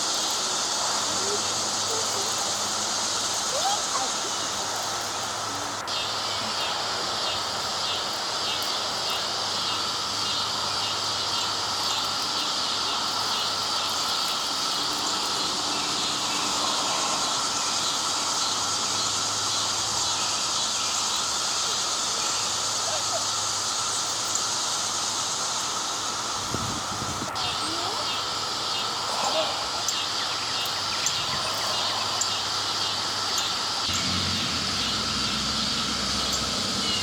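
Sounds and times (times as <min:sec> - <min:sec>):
cicada chorus buzzing: 0:00.0 - 0:37.0.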